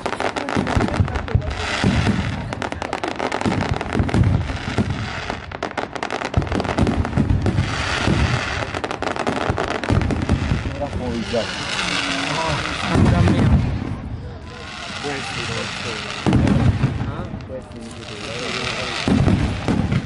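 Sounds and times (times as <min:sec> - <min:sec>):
fireworks booming: 0:00.0 - 0:20.0
fireworks crackling: 0:00.0 - 0:20.0.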